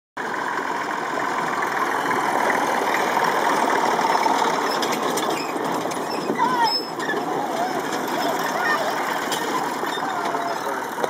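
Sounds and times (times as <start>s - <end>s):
tractor engine running: 0.2s - 11.0s.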